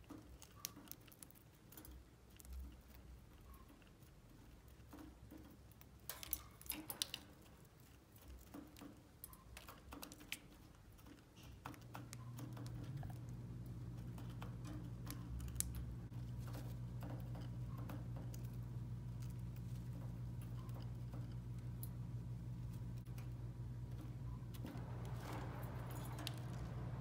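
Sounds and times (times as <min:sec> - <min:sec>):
low steady hum: 0:00.0 - 0:27.0
pecking in metal bowls: 0:00.0 - 0:27.0.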